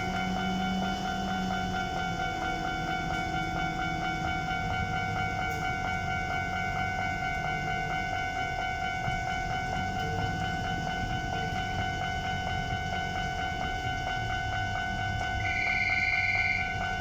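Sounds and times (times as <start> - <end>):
electric train rumbling: 0.0 - 17.0
level crossing alarm ringing: 0.0 - 17.0.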